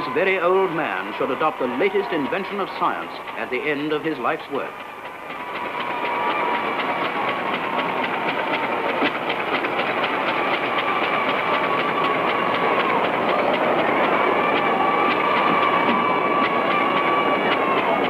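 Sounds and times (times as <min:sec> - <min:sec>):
machine clicking and whining: 0:00.0 - 0:18.0.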